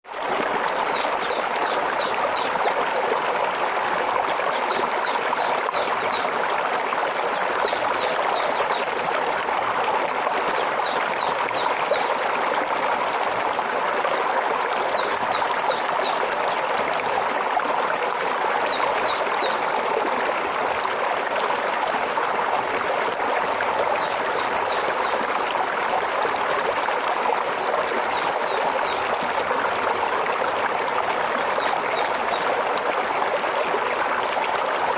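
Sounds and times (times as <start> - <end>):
stream babbling over stones: 0.1 - 34.9.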